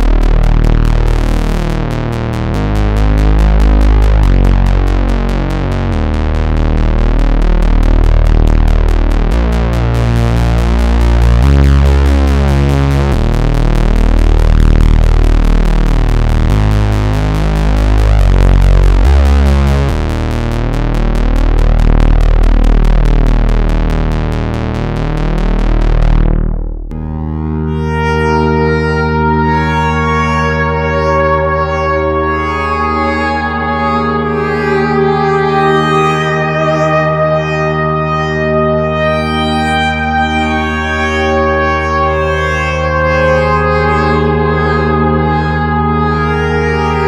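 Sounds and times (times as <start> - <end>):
synthesizer bass with pulsing rhythm: 0.0 - 47.0
synthesizer held chord: 0.0 - 47.0.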